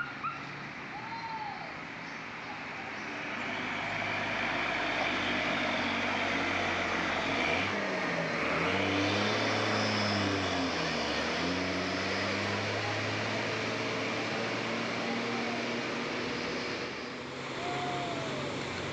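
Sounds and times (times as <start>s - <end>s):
bus engine labouring: 0.0s - 18.9s.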